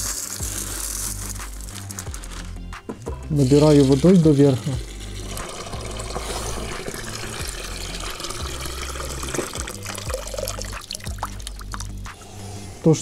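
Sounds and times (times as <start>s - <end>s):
water pouring into bucket: 0.0s - 2.6s, 3.3s - 12.2s.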